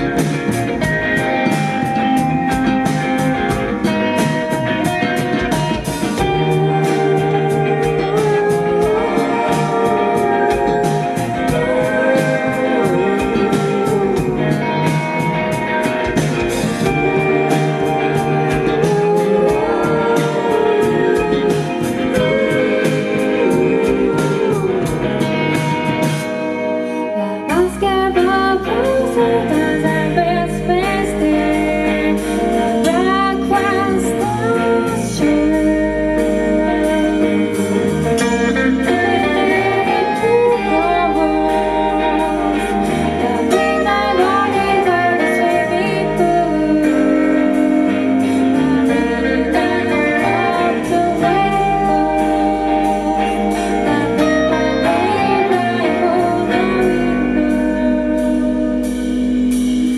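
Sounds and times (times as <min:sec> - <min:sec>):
bass guitar: 0:00.0 - 0:59.9
drum kit: 0:00.0 - 0:59.9
electric guitars: 0:00.0 - 0:59.9
woman singing lead vocal: 0:00.0 - 0:59.9.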